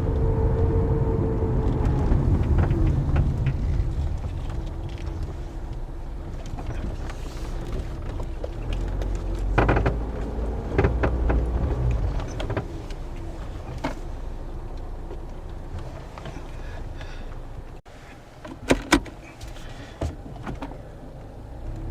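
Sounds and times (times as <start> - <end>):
car driving low rumble: 0.0 - 18.5, 19.1 - 21.9.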